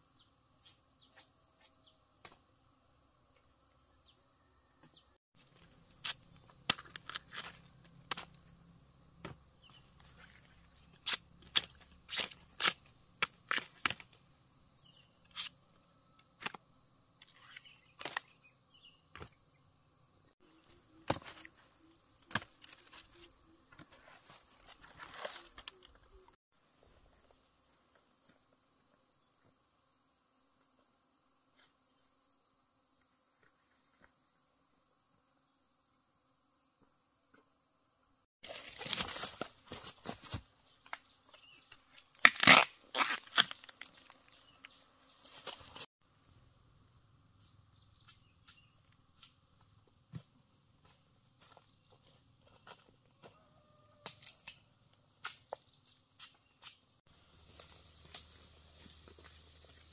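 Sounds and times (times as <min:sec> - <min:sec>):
insects buzzing: 0:00.1 - 0:26.4, 0:27.0 - 0:59.9.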